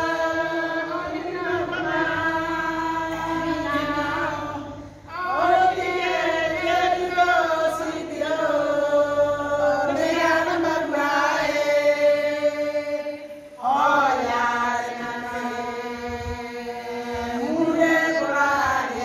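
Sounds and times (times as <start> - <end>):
women singing in unison: 0.0 - 19.0.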